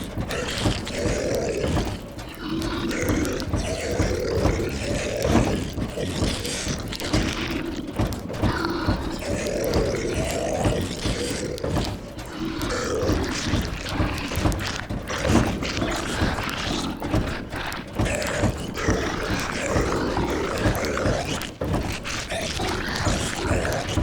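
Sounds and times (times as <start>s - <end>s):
zombie moans and growls: 0.0s - 24.0s.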